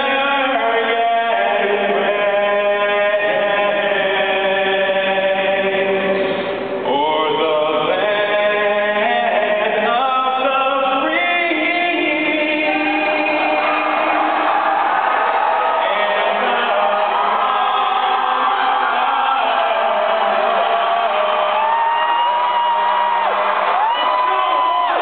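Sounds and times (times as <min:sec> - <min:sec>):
young man singing into a microphone: 0:00.0 - 0:14.6, 0:15.5 - 0:21.6.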